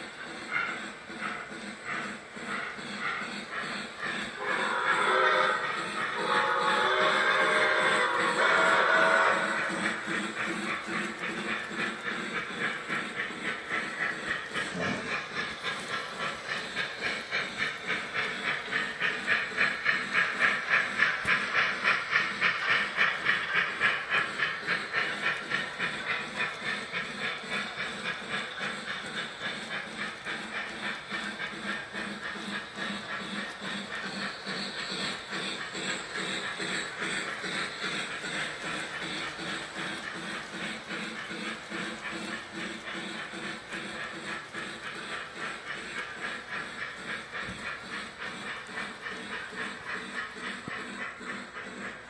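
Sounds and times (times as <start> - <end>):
toy steam locomotive chuffing: 0.0 - 52.0.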